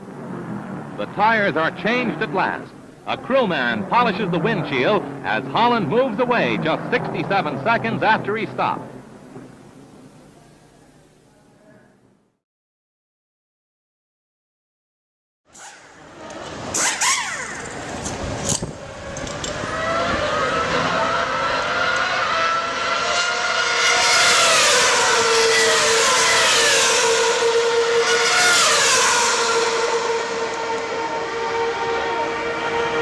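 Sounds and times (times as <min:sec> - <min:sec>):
racing car engines passing: 0:00.0 - 0:10.2, 0:15.6 - 0:33.0.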